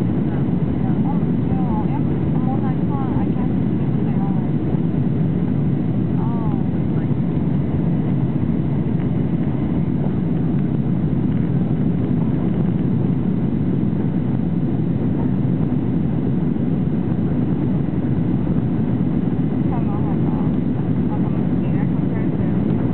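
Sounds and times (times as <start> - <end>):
jet engine hum: 0.0 - 22.9.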